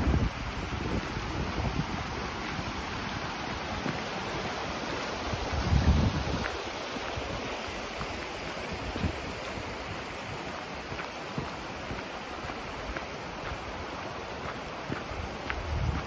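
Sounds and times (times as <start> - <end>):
river rushing over rocks: 0.0 - 16.0
wind on microphone: 0.0 - 16.0.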